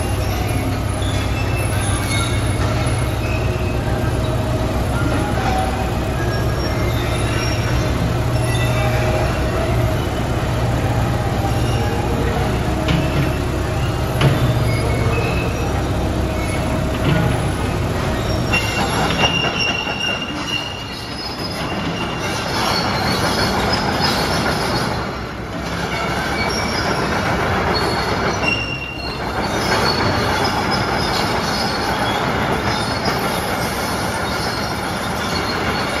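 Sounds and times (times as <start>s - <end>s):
excavator engine running: 0.0s - 36.0s
excavator tracks clattering: 0.0s - 36.0s
high-pitched track squeals: 0.0s - 36.0s.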